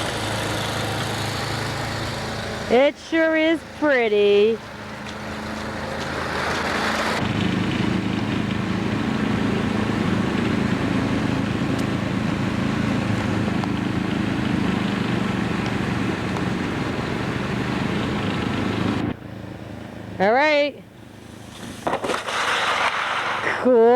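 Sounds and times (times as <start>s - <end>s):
engine running steadily: 0.0s - 23.6s.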